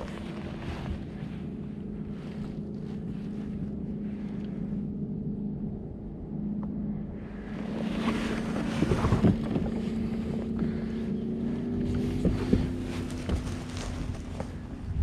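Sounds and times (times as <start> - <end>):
boat motor humming: 0.0 - 15.0
wind noise on microphone: 0.0 - 15.0.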